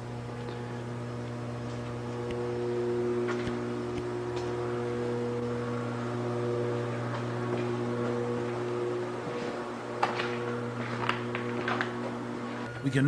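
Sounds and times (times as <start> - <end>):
low steady drone: 0.0 - 13.0.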